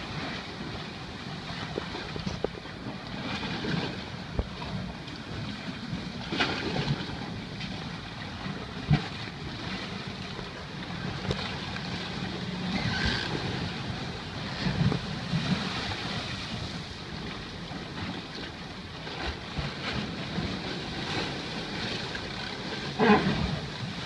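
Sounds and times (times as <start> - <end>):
water washing against hull: 0.0 - 24.0.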